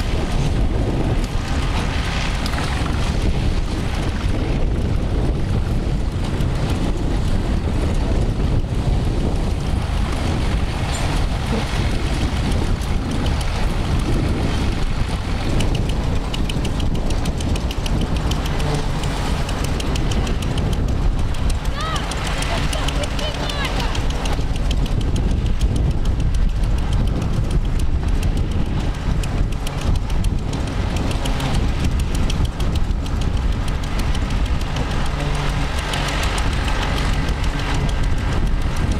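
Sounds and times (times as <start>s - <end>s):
tractor engine running: 0.0s - 38.9s
wind buffeting microphone: 0.0s - 38.9s
faint rapid ticking: 1.2s - 38.9s.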